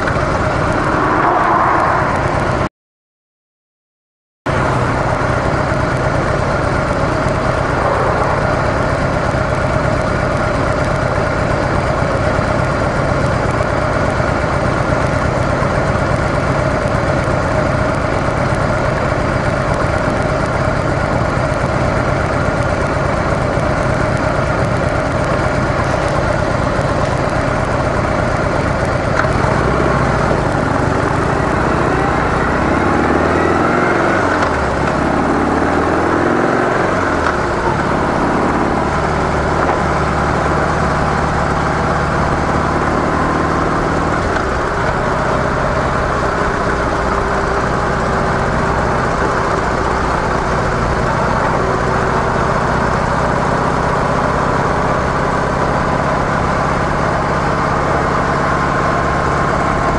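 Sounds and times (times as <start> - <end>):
motorcycle engine running: 0.0 - 2.7, 4.5 - 59.9.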